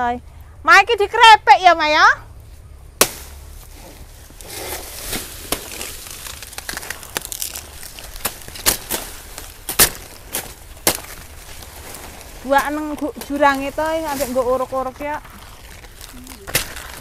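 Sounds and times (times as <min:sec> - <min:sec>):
banana leaves rustling and tearing: 0:03.0 - 0:17.0.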